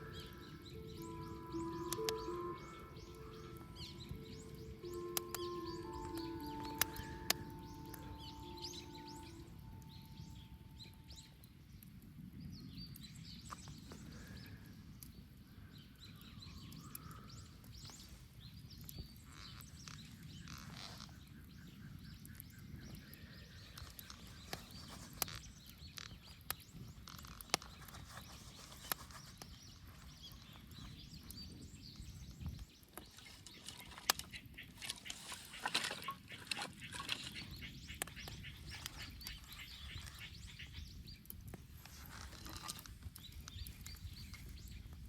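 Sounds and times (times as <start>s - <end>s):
fire crackles and pops: 0.0s - 45.0s.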